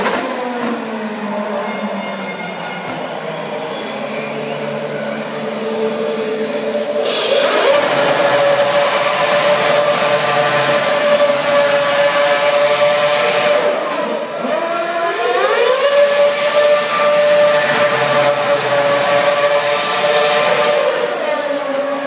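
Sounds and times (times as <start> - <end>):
racing car engine revving high: 0.0 - 22.0.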